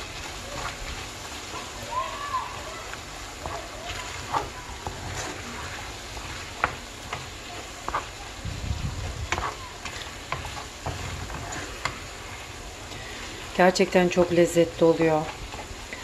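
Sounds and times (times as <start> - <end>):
wooden spoon scraping a pan: 0.0 - 1.8, 2.6 - 16.0
food sizzling in a frying pan: 0.0 - 16.0.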